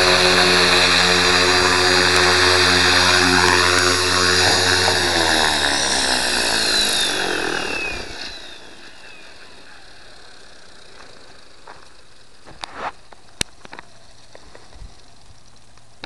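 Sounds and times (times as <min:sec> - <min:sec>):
rc helicopter motor winding down: 0:00.0 - 0:16.0.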